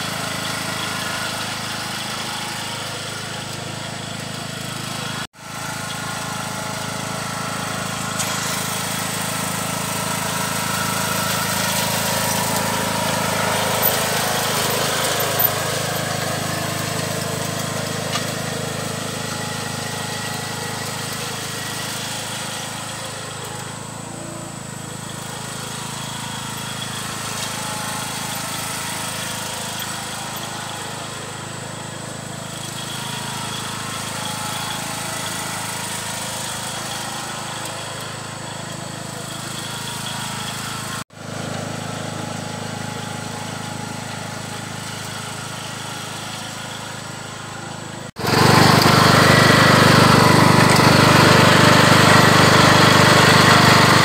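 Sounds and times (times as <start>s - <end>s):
garden tractor engine running: 0.0s - 54.0s.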